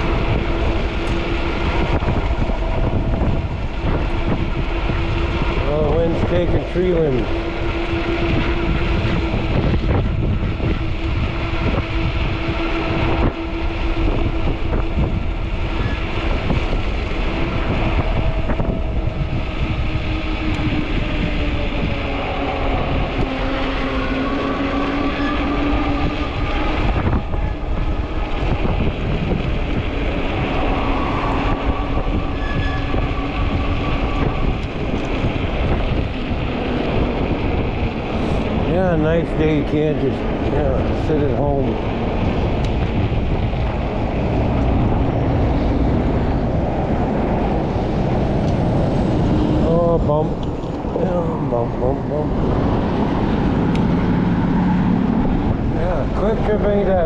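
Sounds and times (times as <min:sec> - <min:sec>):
electric motor whine: 0:00.0 - 0:49.8
wind buffeting microphone: 0:00.0 - 0:57.0.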